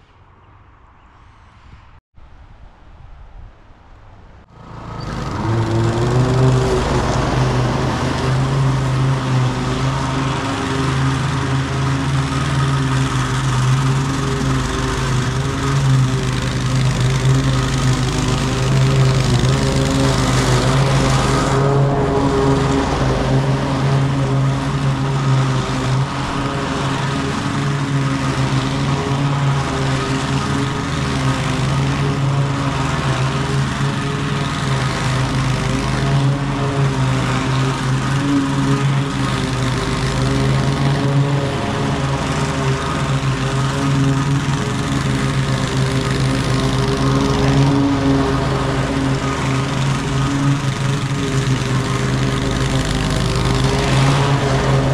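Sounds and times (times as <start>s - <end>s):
lawn mower engine running: 4.5s - 54.9s.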